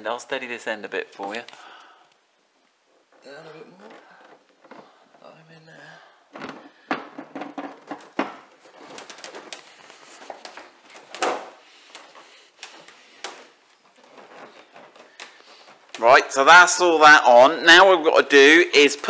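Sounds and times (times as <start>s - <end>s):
rustling: 0.0s - 17.1s.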